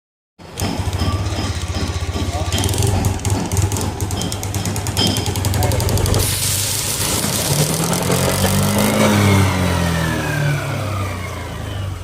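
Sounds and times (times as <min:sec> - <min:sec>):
scooter engine revving: 0:00.5 - 0:12.0.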